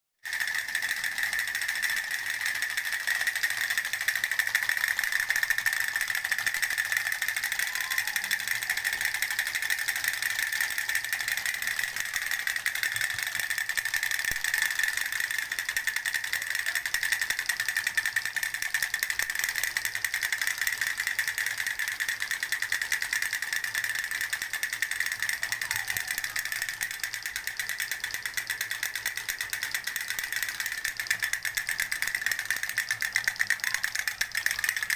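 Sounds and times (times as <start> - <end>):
fast mechanical rattle: 0.2 - 34.9.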